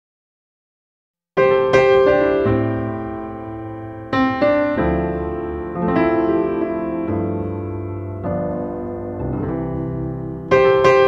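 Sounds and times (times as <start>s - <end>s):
slow piano chords: 1.4s - 11.0s.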